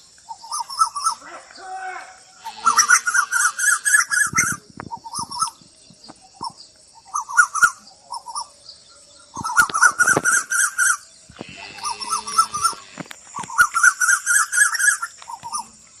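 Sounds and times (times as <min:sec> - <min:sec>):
faint low bird call: 0:00.3 - 0:08.6, 0:09.2 - 0:15.8.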